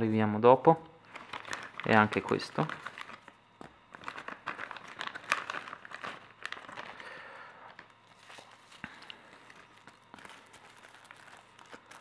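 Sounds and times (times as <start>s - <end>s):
plastic bag crinkling: 1.1s - 12.0s.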